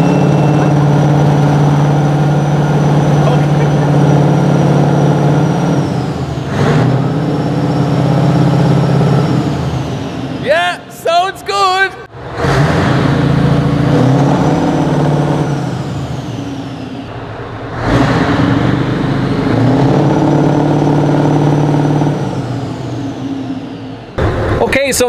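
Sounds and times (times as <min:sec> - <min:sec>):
diesel truck engine revving: 0:00.0 - 0:11.3, 0:12.0 - 0:25.0.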